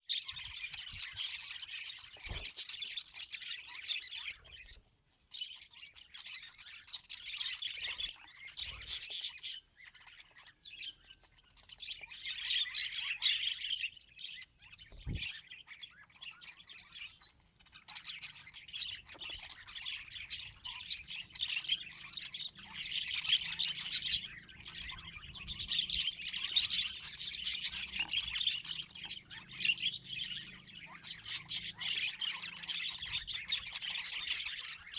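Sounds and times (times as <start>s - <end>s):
budgies chirping and squawking: 0.2s - 4.8s, 5.4s - 34.9s.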